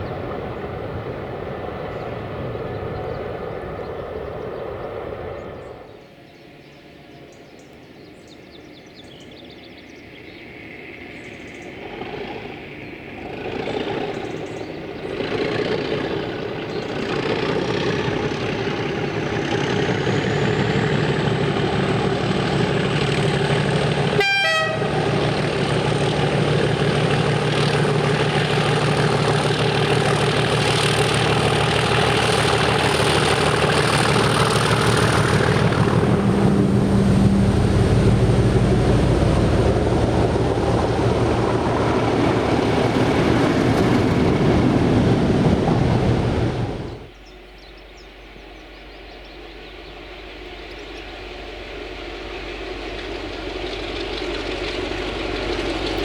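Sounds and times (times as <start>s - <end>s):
diesel locomotive working hard: 0.0s - 56.0s.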